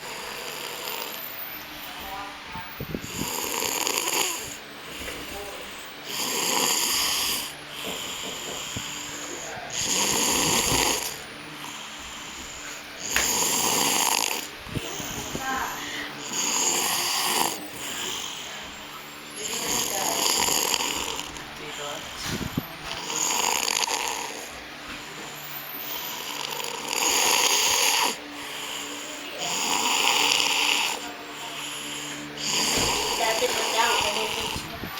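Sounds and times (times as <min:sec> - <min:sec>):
person snoring: 0:00.0 - 0:01.3, 0:03.0 - 0:34.8
quiet breathing: 0:02.6 - 0:34.9.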